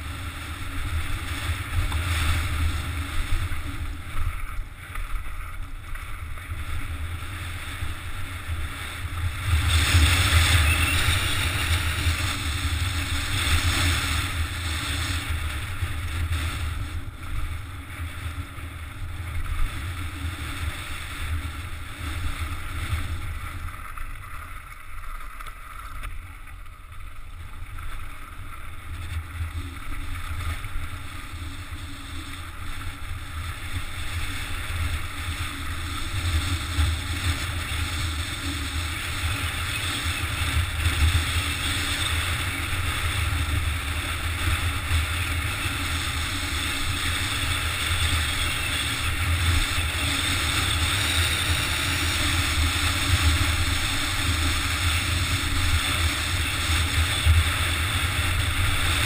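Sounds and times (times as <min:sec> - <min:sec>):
bike tyres rattling on gravel: 0:00.0 - 0:59.0.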